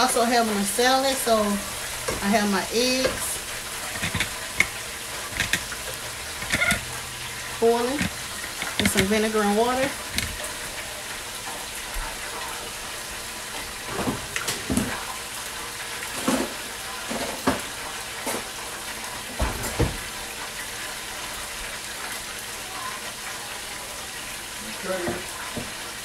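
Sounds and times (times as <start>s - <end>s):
eggs boiling in pot: 0.0s - 26.0s
vegetables sizzling in pot: 0.0s - 26.0s.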